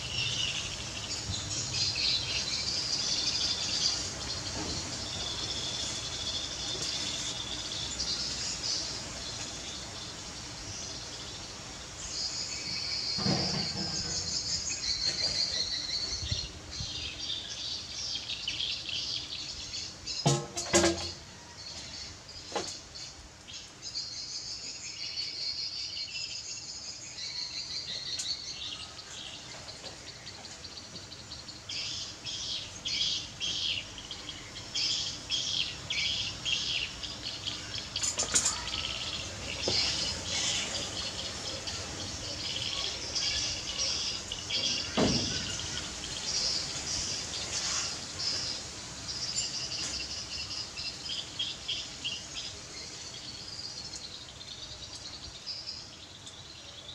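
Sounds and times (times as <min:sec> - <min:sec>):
small birds chirping: 0:00.0 - 0:20.4, 0:21.6 - 0:56.9.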